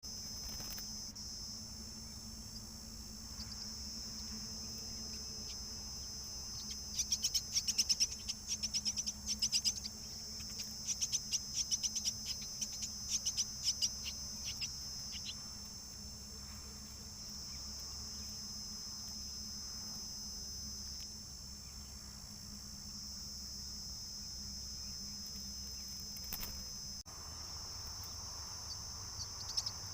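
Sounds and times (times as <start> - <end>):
high-pitched insect drone: 0.1 - 29.9.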